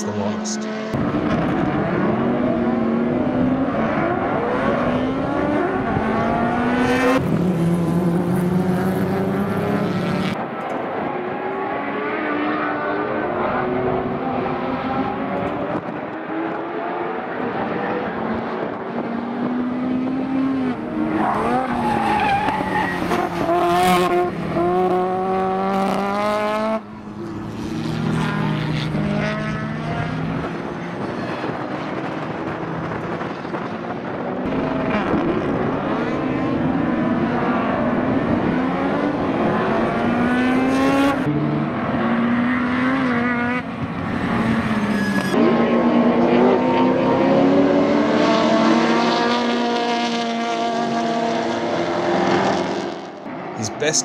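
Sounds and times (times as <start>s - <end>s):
race car engines at full throttle: 0.0s - 54.0s.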